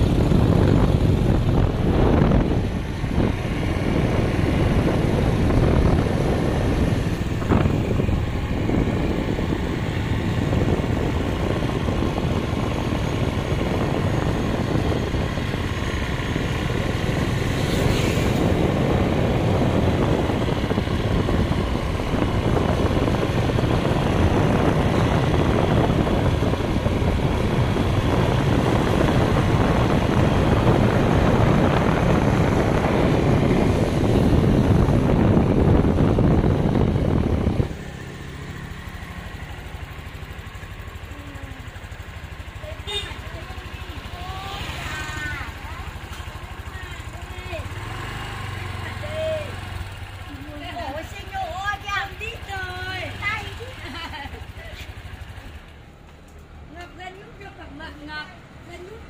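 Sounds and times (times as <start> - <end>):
wind noise: 0.0 - 55.6
road noise: 0.0 - 59.0
scooter engines running: 0.0 - 59.0.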